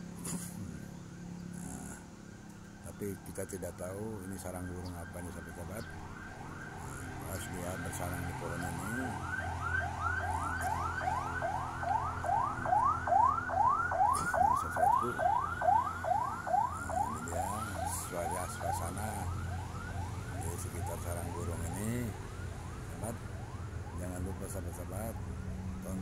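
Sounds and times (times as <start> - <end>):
electronic siren yelping: 2.8 - 26.0.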